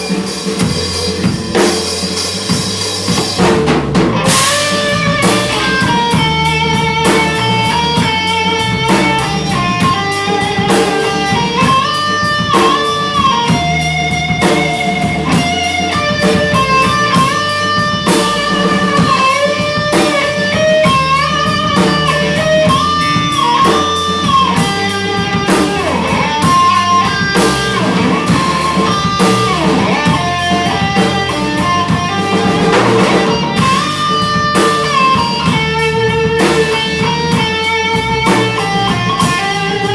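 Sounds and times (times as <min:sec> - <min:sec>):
electric guitar melody: 0:00.0 - 0:39.9
live rock band playing: 0:00.0 - 0:39.9.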